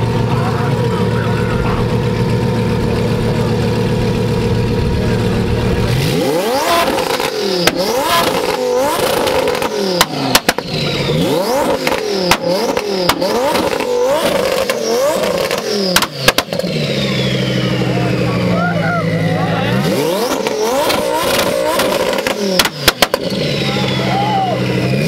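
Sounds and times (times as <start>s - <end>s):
car engine idling and revving: 0.0s - 25.0s
exhaust cracks: 0.0s - 25.0s.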